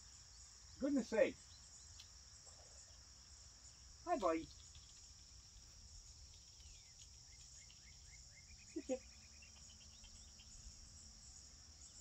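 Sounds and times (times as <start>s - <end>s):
crickets chorus: 0.0s - 12.0s.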